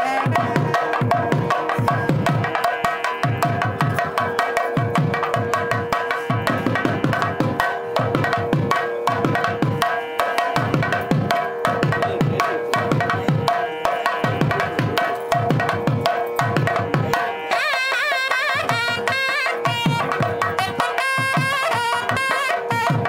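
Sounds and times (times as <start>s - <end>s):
wavering reed melody: 0.0s - 23.0s.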